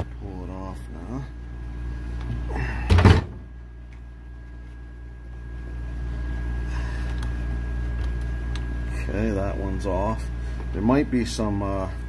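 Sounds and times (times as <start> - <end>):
high whine: 0.0 - 12.0
low mechanical hum: 0.0 - 12.0.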